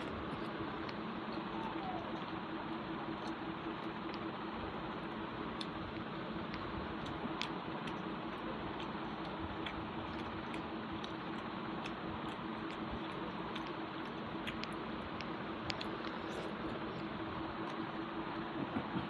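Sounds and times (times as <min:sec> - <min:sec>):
faint chewing and mouth clicks: 0:00.0 - 0:19.0
steady hiss and low hum: 0:00.0 - 0:19.0.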